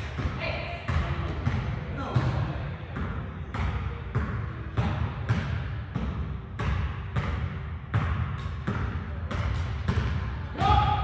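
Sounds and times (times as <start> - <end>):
low rumble of sports hall: 0.0 - 11.0.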